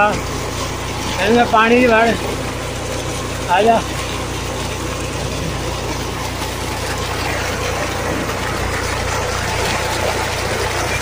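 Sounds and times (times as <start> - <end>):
pump motor humming: 0.0 - 11.0
water pouring into tank: 0.0 - 11.0.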